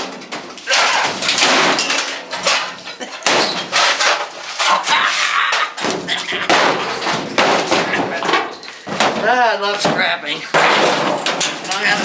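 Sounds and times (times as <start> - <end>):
sheet metal rattling and scraping: 0.0 - 12.0.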